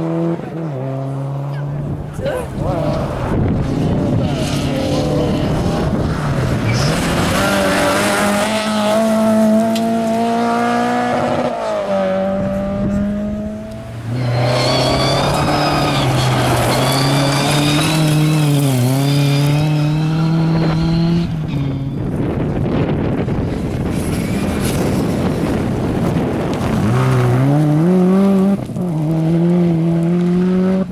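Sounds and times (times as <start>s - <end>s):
rally car engine at full throttle: 0.0s - 30.9s.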